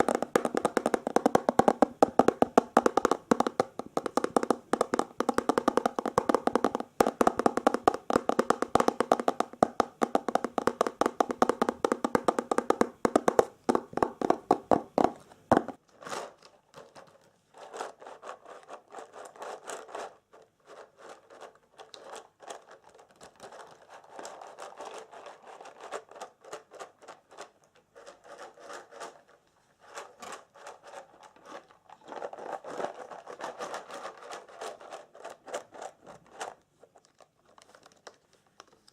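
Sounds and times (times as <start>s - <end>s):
scratching and rustling: 0.0s - 38.9s.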